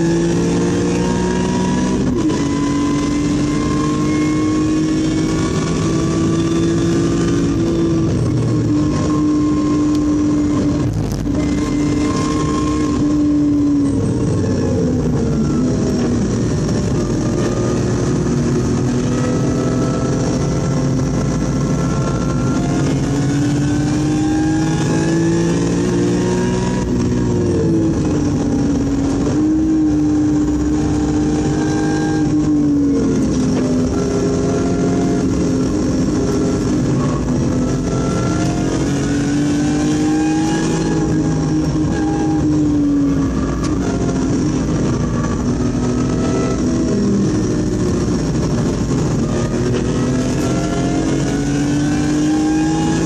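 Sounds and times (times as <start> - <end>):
car engine revving: 0.0 - 53.0
road and wind noise: 0.0 - 53.0.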